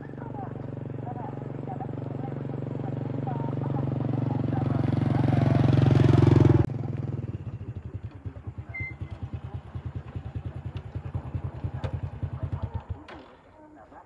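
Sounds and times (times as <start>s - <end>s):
motorcycle idling: 0.0s - 13.5s
motorcycle engine approaching: 0.0s - 13.8s.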